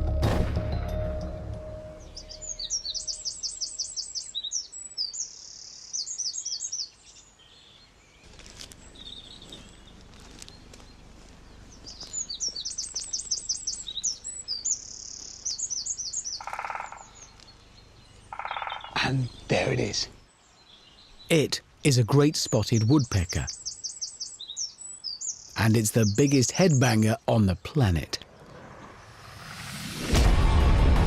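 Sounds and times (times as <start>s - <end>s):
songbird singing trills: 1.9s - 29.2s.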